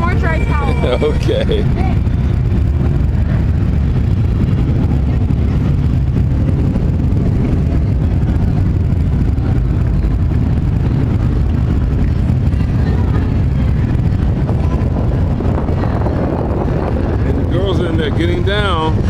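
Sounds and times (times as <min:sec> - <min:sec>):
motorcycle engines running: 0:00.0 - 0:19.0.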